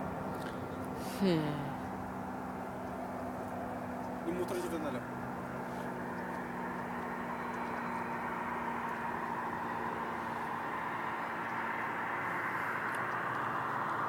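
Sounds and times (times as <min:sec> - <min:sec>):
vehicle engine rushing: 0:00.0 - 0:14.0.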